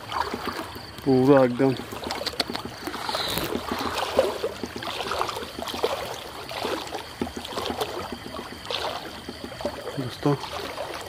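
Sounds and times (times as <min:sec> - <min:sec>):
person wading through water: 0:00.0 - 0:11.0.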